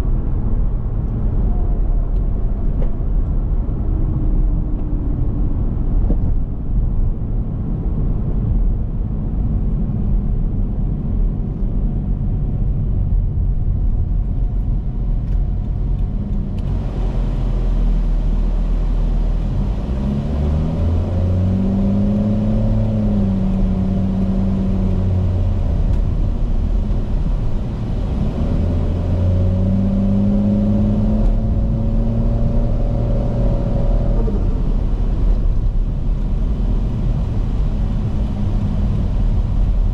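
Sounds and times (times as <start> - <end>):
car engine low drone: 0.0 - 39.9.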